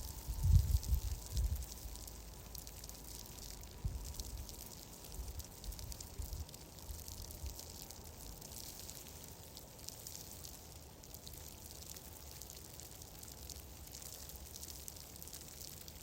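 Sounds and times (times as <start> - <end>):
fireplace crackling and popping: 0.0 - 16.0.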